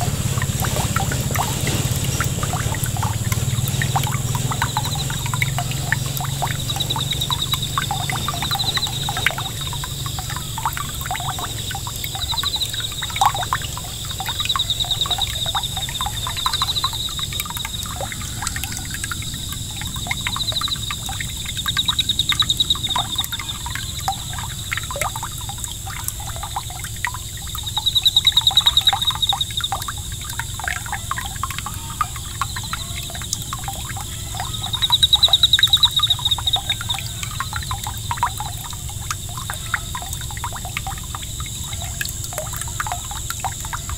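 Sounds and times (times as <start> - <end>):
water jet splashing on pond: 0.0 - 43.9.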